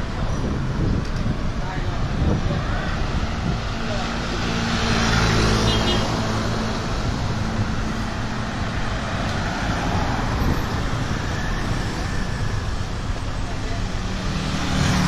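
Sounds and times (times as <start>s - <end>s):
cars and motorbikes passing: 0.0s - 15.0s.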